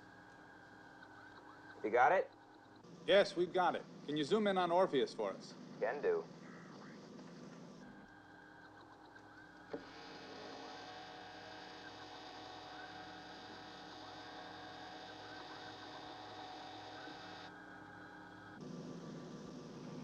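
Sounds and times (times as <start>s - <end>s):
faint high warbling tones: 0.0s - 2.9s, 6.1s - 20.0s
low electronic hum: 0.0s - 20.0s.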